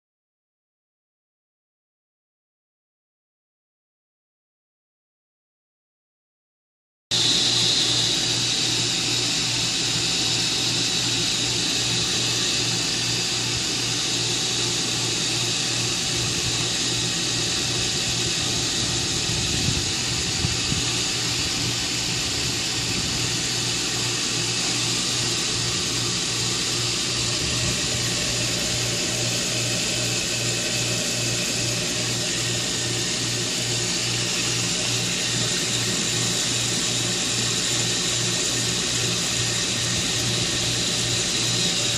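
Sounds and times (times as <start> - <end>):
pool pump humming: 7.1 - 41.9.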